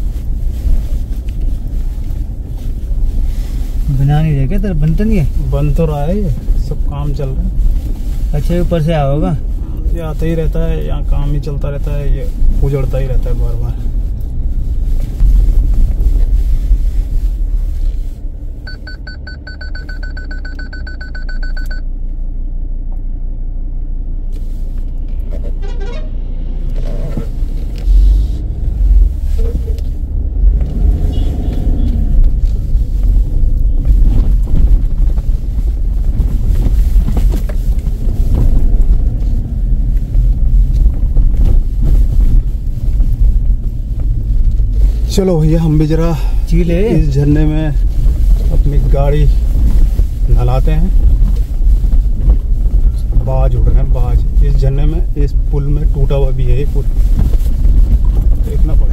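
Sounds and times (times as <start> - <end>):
car cabin rumble on gravel: 0.0 - 22.3, 24.1 - 58.9.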